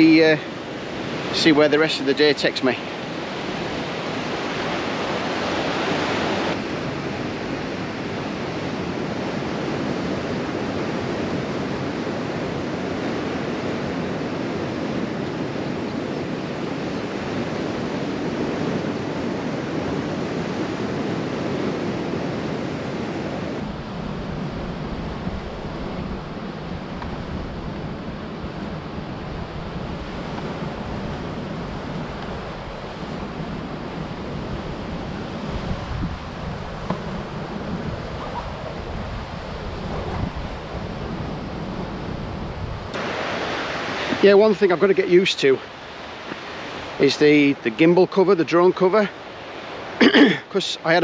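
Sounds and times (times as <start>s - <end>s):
wind on microphone: 2.8s - 44.3s.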